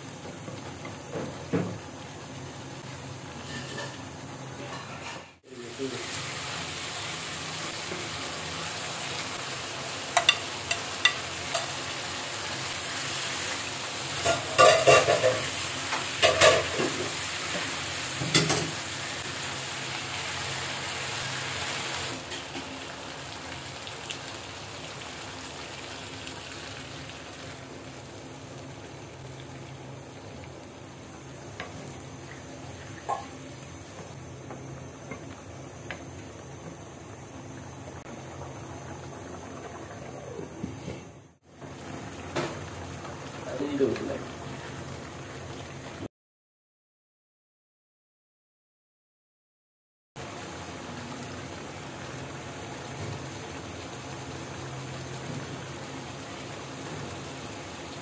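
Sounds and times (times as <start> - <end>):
chicken sizzling in a pan: 0.0 - 36.6, 37.6 - 46.0, 50.2 - 58.0.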